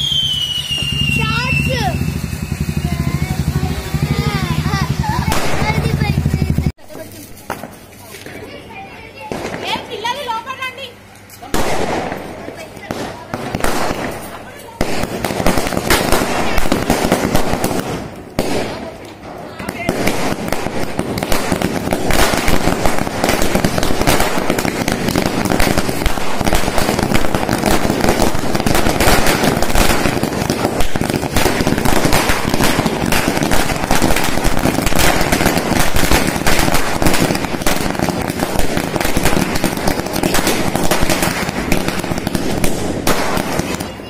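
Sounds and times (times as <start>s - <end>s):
firecrackers banging and crackling: 0.0s - 44.0s.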